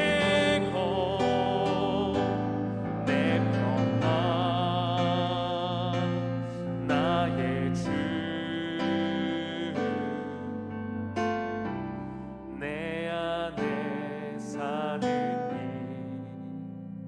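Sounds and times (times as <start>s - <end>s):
person singing with vibrato: 0.0s - 11.4s, 12.5s - 16.9s.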